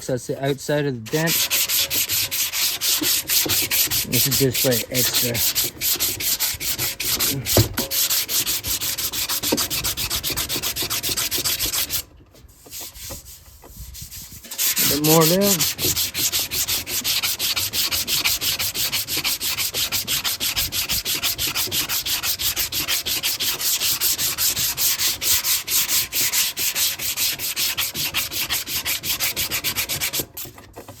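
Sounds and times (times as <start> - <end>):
sandpaper sanding metal: 0.0 - 31.0.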